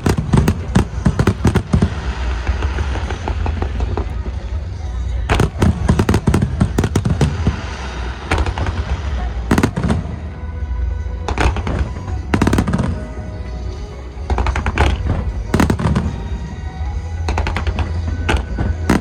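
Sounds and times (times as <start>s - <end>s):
fireworks bangs and crackle: 0.0s - 10.6s, 11.2s - 19.0s
music playing: 0.0s - 19.0s.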